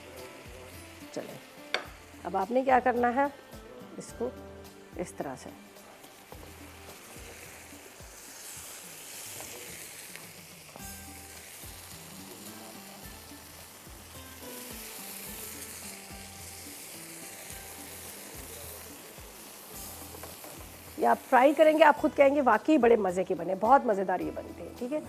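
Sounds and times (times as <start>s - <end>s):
bread sizzling on a griddle: 0.0s - 25.0s.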